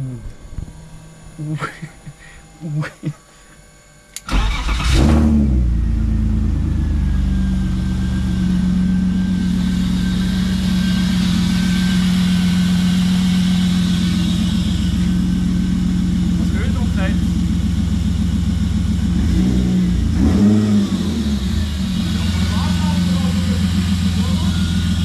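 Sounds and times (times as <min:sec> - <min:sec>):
car engine starting and idling: 0:04.0 - 0:25.0.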